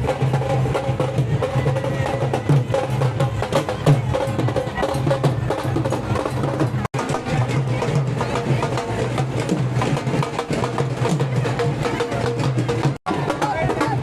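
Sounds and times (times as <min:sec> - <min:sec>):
rapid dense percussion: 0:00.0 - 0:14.0.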